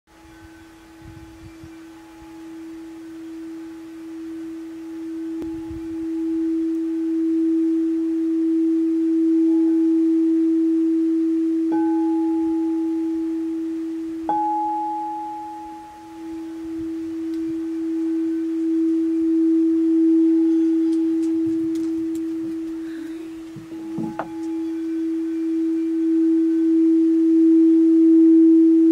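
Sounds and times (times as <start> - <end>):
singing bowl steady tone: 0.1 - 28.9.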